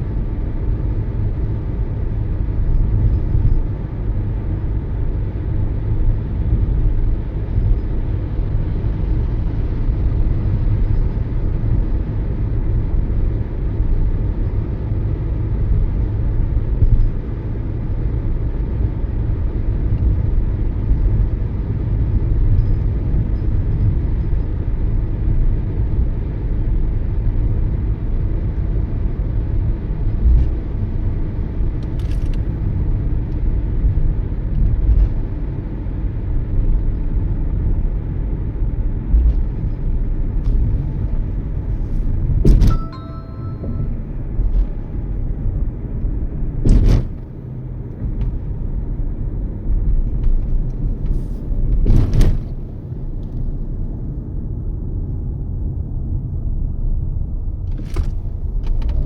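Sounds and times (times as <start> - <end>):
car driving road rumble: 0.0 - 59.0.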